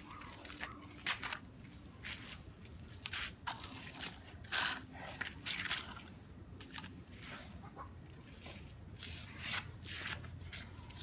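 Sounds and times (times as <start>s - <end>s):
hands scraping dry sand: 2.0s - 11.0s.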